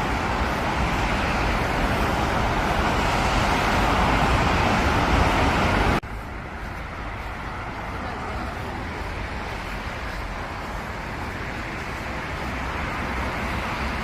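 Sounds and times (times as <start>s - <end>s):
road traffic roaring: 0.0s - 14.0s.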